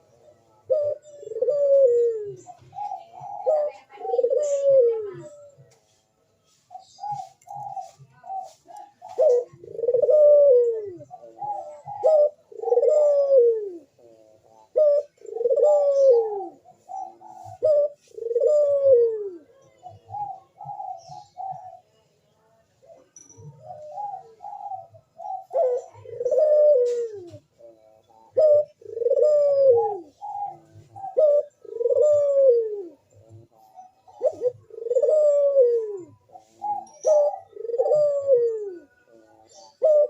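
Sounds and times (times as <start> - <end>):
dove cooing call: 0.0 - 40.0.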